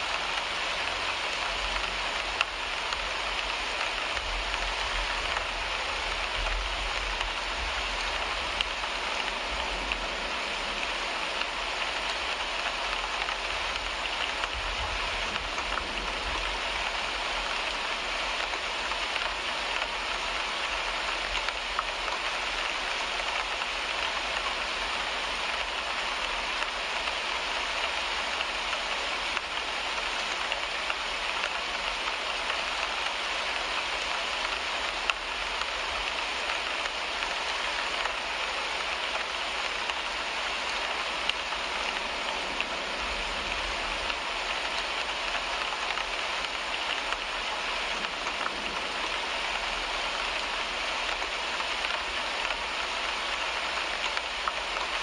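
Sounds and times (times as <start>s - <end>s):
rain on car windshield: 0.0s - 55.0s
raindrop taps: 0.1s - 55.0s.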